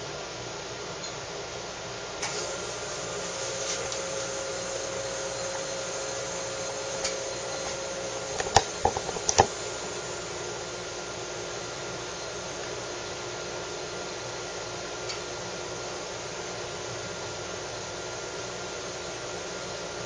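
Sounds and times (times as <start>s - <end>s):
espresso machine humming: 2.0s - 20.0s.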